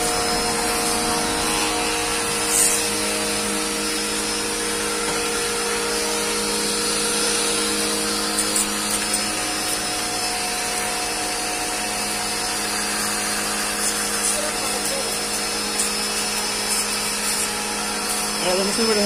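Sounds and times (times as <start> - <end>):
cleaning machine motor hissing: 0.0 - 19.0.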